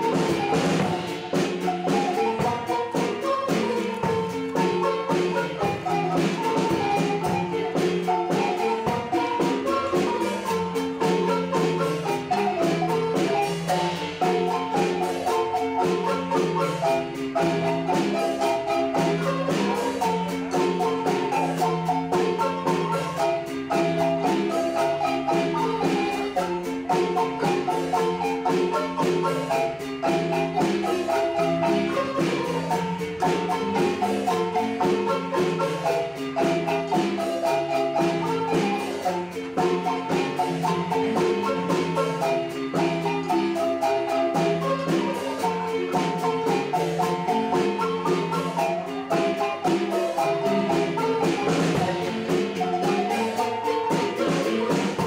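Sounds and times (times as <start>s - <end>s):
marimba ensemble playing: 0.0s - 55.0s.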